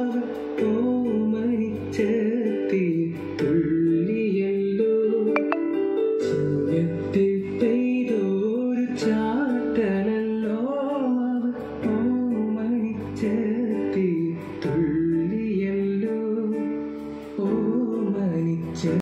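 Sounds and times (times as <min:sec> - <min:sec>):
song over loudspeakers: 0:00.0 - 0:19.0.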